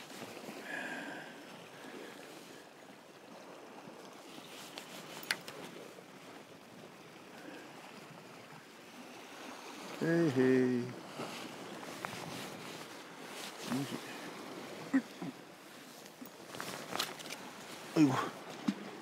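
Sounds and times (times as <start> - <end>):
sea and wind at shore: 0.0 - 19.0.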